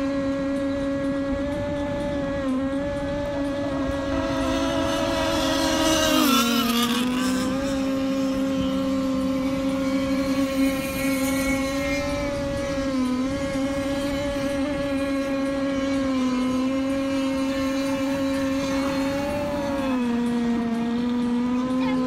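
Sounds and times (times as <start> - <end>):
speedboat engine running hard: 0.0 - 22.0
water and wind rushing: 0.0 - 22.0.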